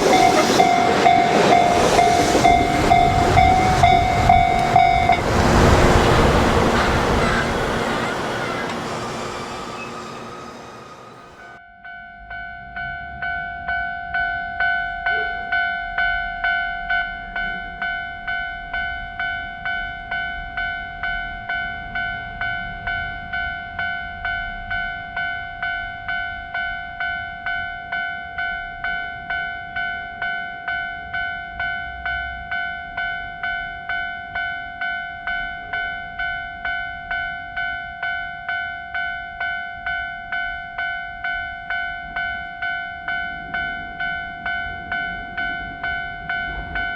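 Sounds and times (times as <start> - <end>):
railroad crossing bell ringing: 0.0 - 46.9.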